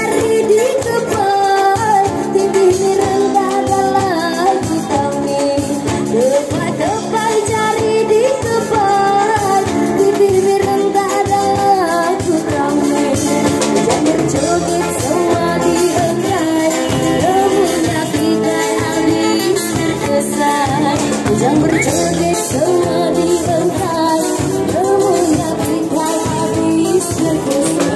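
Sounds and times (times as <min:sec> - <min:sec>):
acoustic guitar: 0:00.0 - 0:27.9
drum kit dance beat: 0:00.0 - 0:27.9
person singing: 0:00.0 - 0:27.9.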